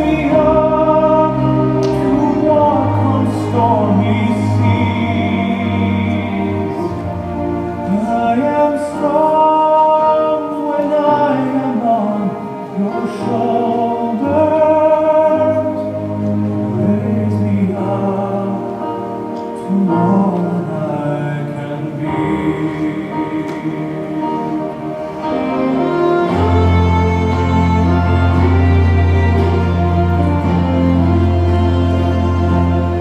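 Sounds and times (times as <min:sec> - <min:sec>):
musical accompaniment: 0:00.0 - 0:33.0.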